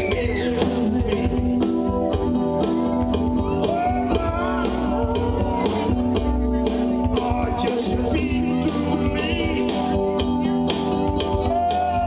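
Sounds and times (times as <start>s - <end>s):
country-rock song on keyboard: 0.0s - 12.0s.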